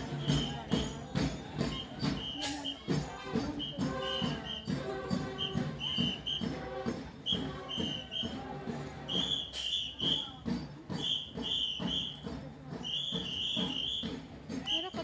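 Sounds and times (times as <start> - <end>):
high whistle-like melody: 0.0 - 14.9
rhythmic beat: 0.0 - 15.0.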